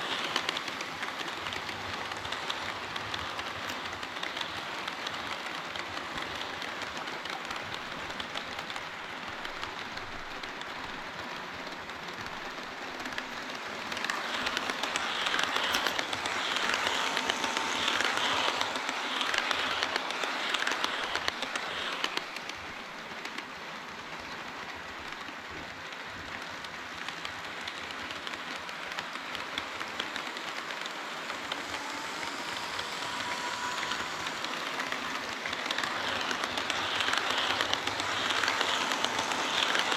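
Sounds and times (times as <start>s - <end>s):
model train rolling rattle: 0.0s - 39.9s.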